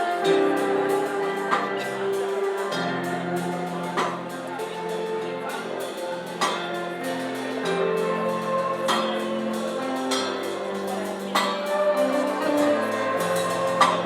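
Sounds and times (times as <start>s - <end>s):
held chords: 0.0s - 14.0s.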